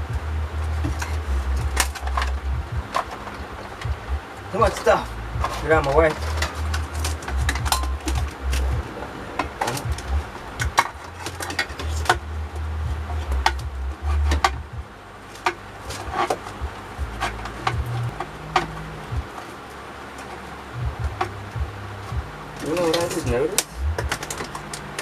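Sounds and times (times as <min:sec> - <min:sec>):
low rumble: 0:00.0 - 0:19.7, 0:20.6 - 0:25.0.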